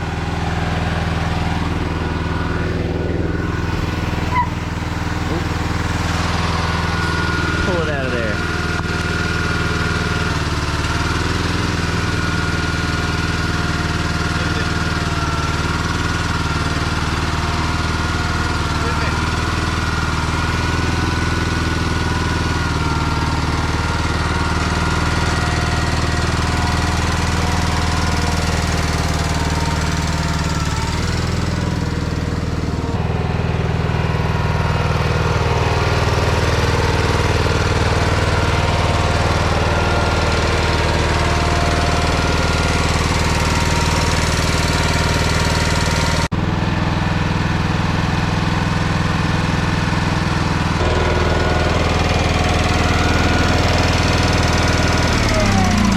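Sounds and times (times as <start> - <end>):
garden tractor engine running: 0.0 - 55.9.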